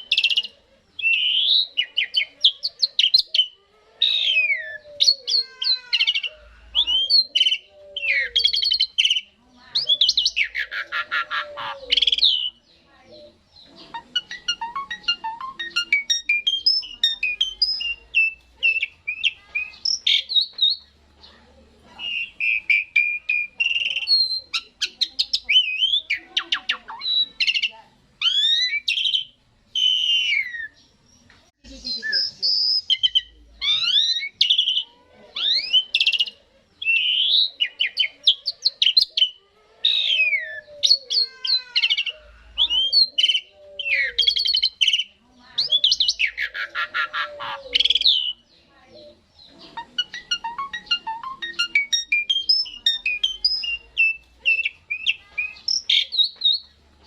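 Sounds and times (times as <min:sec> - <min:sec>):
starling singing: 0:00.0 - 0:57.0.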